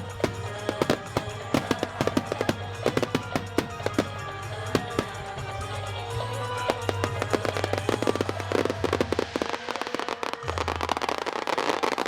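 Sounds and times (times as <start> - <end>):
fireworks popping and crackling: 0.0 - 12.0.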